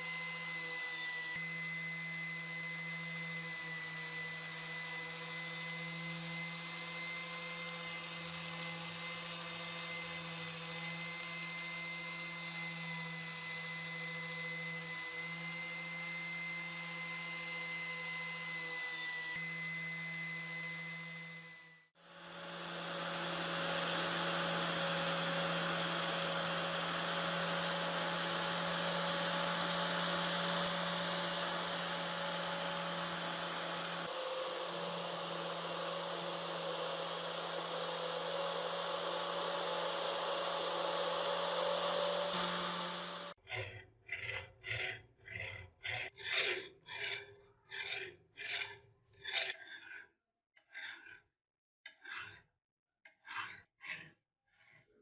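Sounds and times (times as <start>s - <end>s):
power tool grinding metal: 0.0s - 50.0s.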